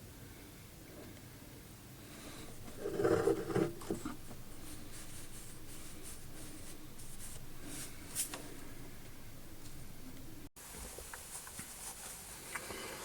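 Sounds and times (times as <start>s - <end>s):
faint scraping and rustling: 2.0s - 13.0s.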